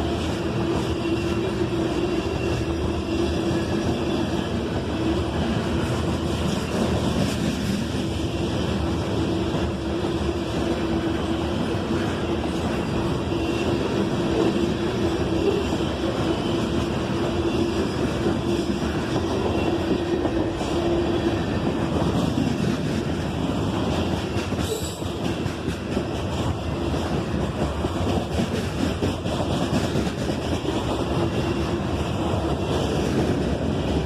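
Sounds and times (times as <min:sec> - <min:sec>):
freight train wheels clacking: 0:00.0 - 0:34.0.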